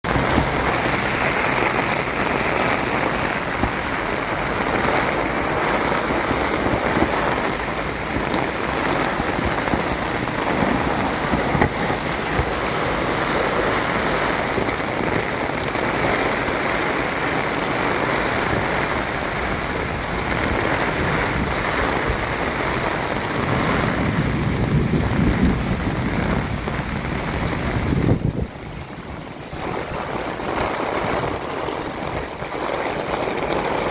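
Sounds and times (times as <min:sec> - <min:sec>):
heavy rain pouring: 0:00.0 - 0:33.9
low thunder rumble: 0:00.1 - 0:33.9.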